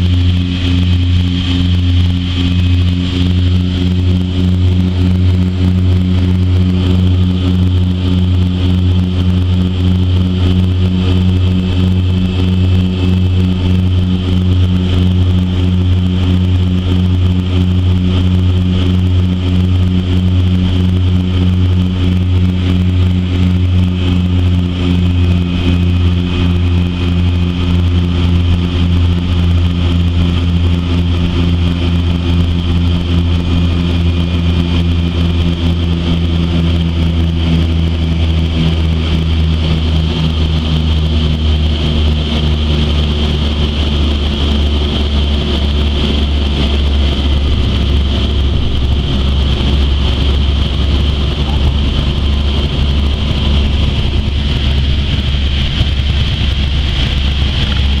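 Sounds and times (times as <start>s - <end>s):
high turbine whine: 0.0s - 58.0s
propeller drone: 0.0s - 58.0s.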